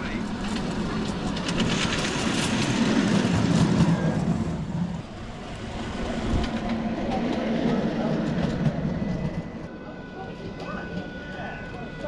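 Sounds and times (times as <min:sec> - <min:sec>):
wheels clicking on rails: 0:00.0 - 0:09.7
miniature train rumble: 0:00.0 - 0:12.0.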